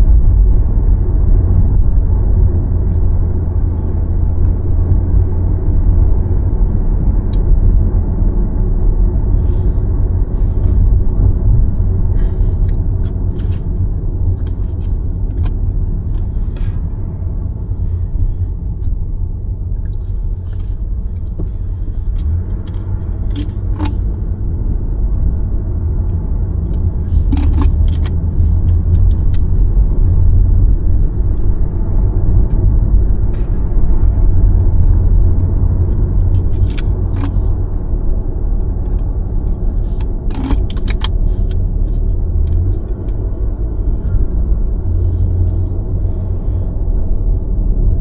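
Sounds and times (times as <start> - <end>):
car driving rumble: 0.0 - 48.0.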